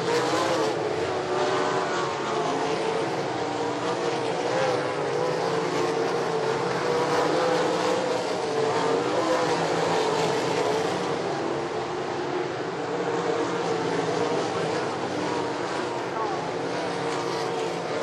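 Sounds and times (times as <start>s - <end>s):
race car engines: 0.0s - 18.0s.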